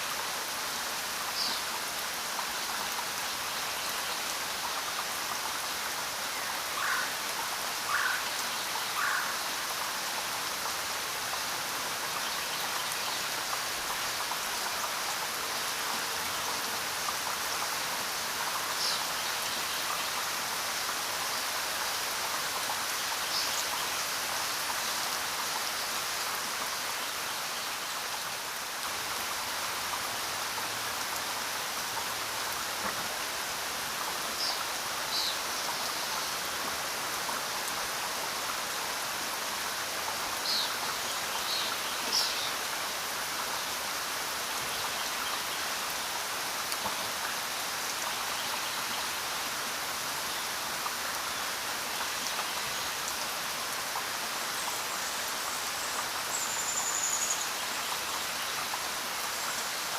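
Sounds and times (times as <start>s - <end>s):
raindrops pattering on surfaces: 0.0s - 59.9s
steady rain hiss: 0.0s - 59.9s.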